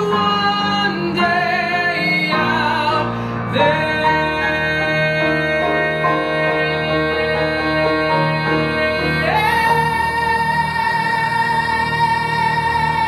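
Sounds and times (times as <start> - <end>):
man singing long notes: 0.0 - 13.0
piano accompaniment: 0.0 - 13.0.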